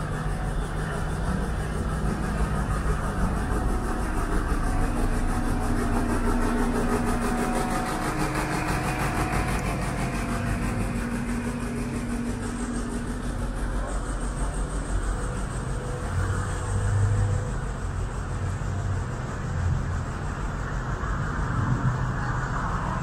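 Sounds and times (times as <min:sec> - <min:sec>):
city traffic hum: 0:00.0 - 0:23.0
vehicle engine idling: 0:00.0 - 0:23.0.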